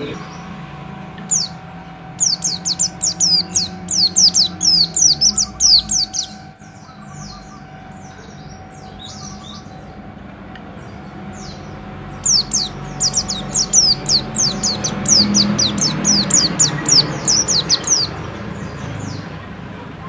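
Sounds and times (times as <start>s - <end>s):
bird singing high sliding notes: 0.0s - 19.3s
steady low hum: 0.0s - 19.9s.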